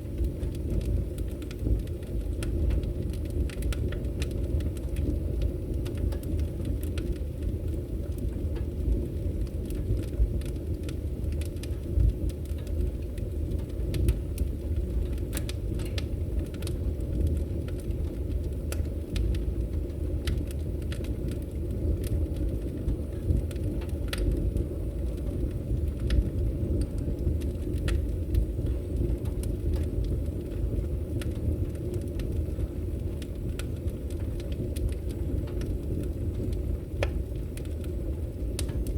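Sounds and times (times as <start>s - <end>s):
fire crackling and popping: 0.0s - 38.9s
fire rumbling: 0.0s - 38.9s.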